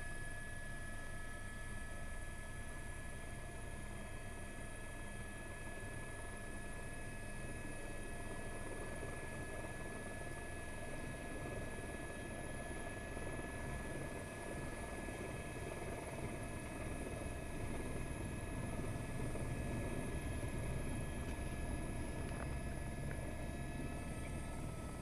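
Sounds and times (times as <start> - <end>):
helicopter engine and rotors: 0.0 - 25.0
thin steady whine: 0.0 - 25.0.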